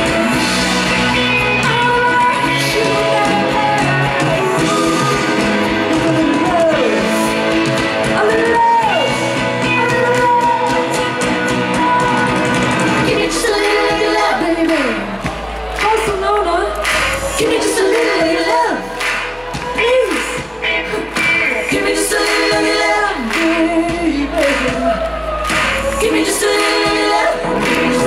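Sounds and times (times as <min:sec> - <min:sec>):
person singing: 0:00.0 - 0:15.2, 0:15.8 - 0:28.0
live pop-rock band playing: 0:00.0 - 0:28.0.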